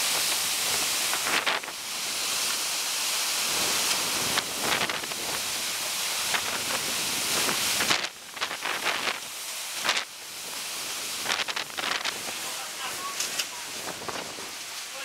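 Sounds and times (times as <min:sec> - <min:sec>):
strong wind: 0:00.0 - 0:02.7, 0:03.4 - 0:14.7
floodwater rushing and churning: 0:00.0 - 0:15.0.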